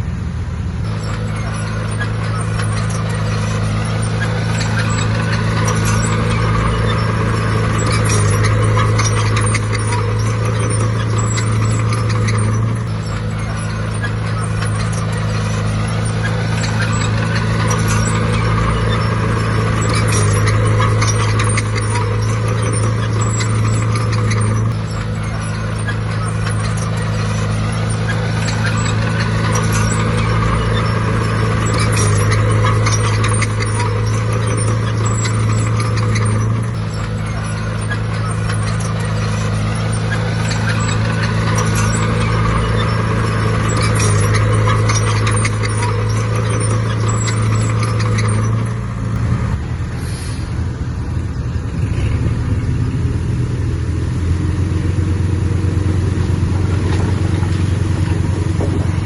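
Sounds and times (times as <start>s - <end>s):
heavy machinery diesel engine: 0.0s - 59.0s
metallic clatter: 0.8s - 51.2s.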